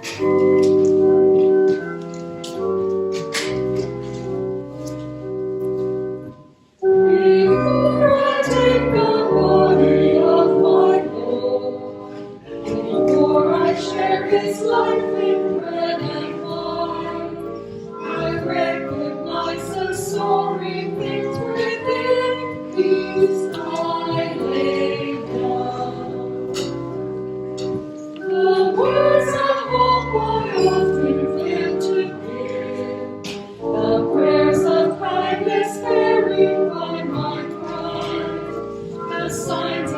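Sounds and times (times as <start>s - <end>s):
organ-like keyboard chords: 0.0s - 39.9s
choir singing a hymn: 6.8s - 39.9s.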